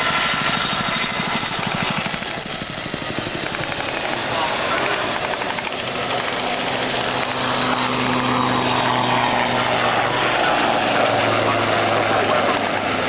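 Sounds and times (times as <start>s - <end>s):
helicopter flying: 0.0s - 13.0s
high turbine whine: 0.0s - 13.0s.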